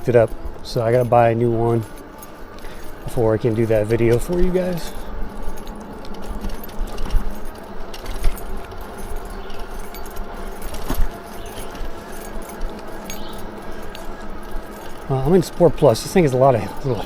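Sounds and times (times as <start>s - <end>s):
bike jingling and rattling: 0.0s - 17.0s.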